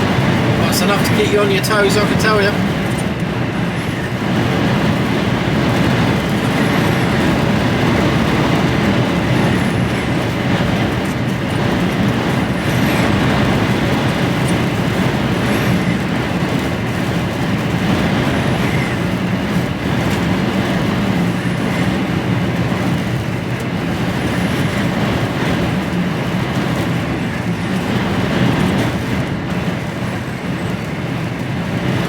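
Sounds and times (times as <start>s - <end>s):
lorry engine hum: 0.0s - 32.0s
storm wind on cab: 0.0s - 32.0s
tyre and road noise: 0.0s - 32.0s.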